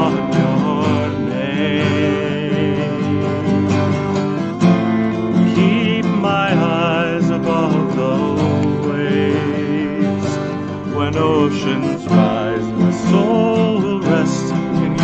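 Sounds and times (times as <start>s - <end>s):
acoustic guitar strumming: 0.0s - 15.0s
sustained wavering melody: 0.0s - 15.0s.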